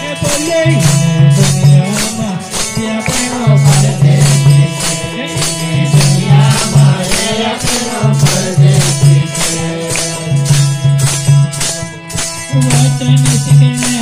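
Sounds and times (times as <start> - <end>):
harmonium held notes: 0.0 - 14.0
jingling tambourines: 0.0 - 14.0
voices singing: 0.0 - 14.0.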